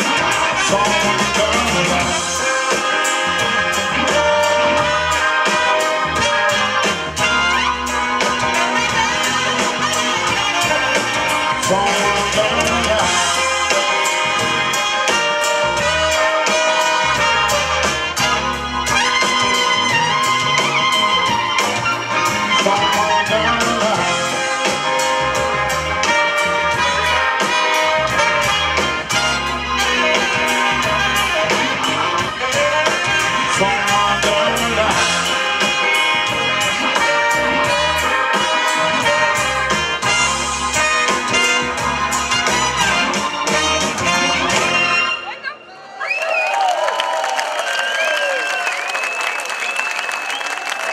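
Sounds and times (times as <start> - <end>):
electric guitar: 0.0 - 45.1
bass: 0.0 - 45.4
live blues band playing: 0.0 - 45.4
saxophone: 0.0 - 45.8
trumpet: 0.0 - 45.9
drums: 0.0 - 50.9.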